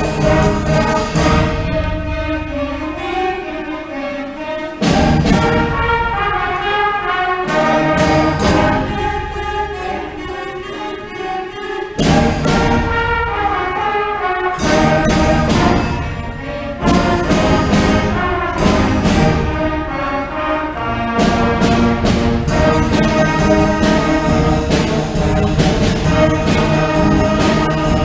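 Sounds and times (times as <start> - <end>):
band percussion: 0.0 - 28.0
concert band playing: 0.0 - 28.0.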